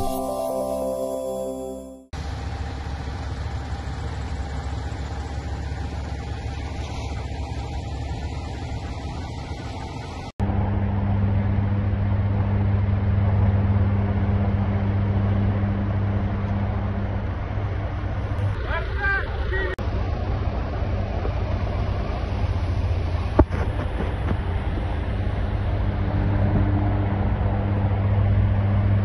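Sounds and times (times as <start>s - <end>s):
low hum: 0.0s - 29.0s
vehicle engines running: 2.2s - 29.0s.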